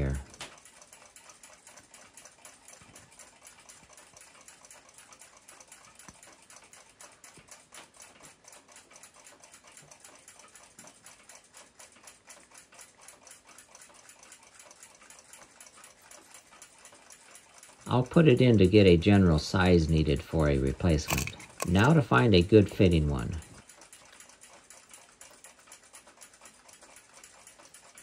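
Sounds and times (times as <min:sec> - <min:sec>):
clock ticking: 0:00.0 - 0:23.6.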